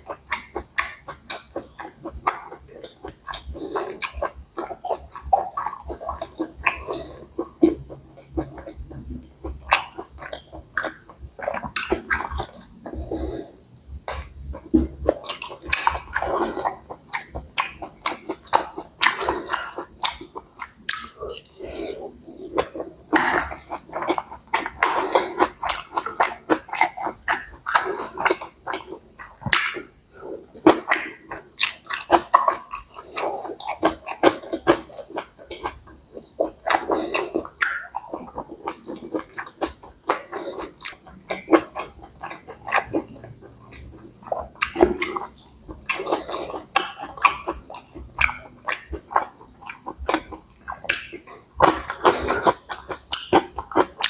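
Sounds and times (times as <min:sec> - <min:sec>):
wet chewing with clicks: 0:00.0 - 0:13.3, 0:14.0 - 0:54.0.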